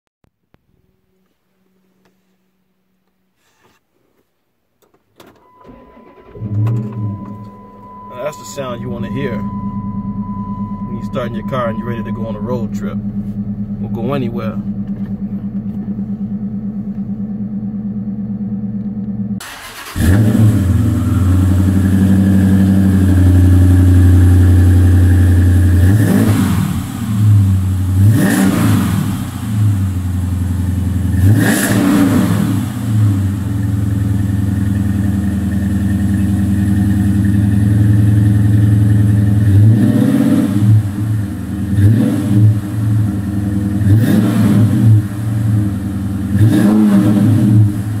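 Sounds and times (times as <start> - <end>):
car engine idling and revving: 5.4 - 48.0.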